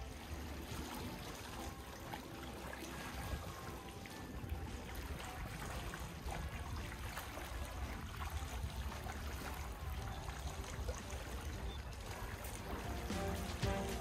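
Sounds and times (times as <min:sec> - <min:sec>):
water lapping against rocks: 0:00.0 - 0:14.0.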